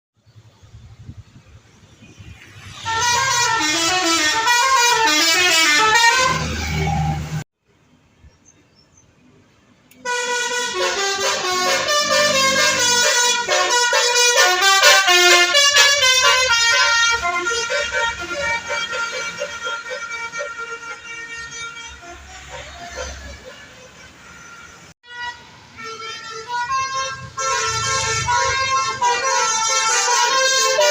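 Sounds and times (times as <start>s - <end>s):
multi-tone bus horn melody: 2.0s - 7.4s, 9.9s - 30.9s.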